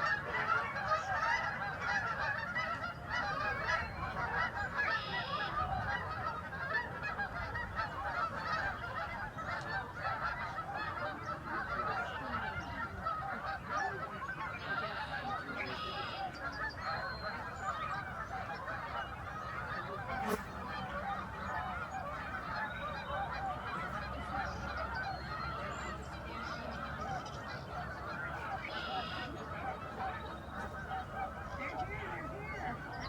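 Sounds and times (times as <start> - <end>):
flock of geese honking: 0.0 - 33.0.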